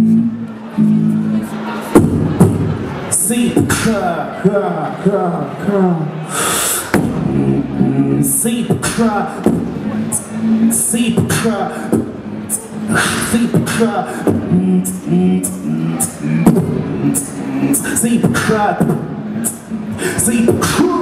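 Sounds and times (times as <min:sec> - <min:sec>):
person beatboxing into microphone: 0:00.0 - 0:21.0.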